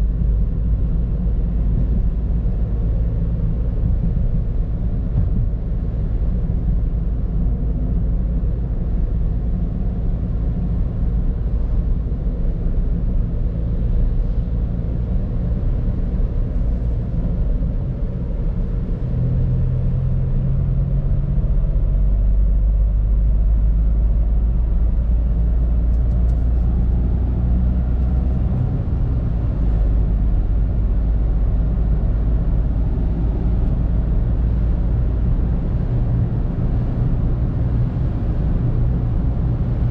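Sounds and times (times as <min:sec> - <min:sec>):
car engine drone inside cabin: 0:00.0 - 0:39.9.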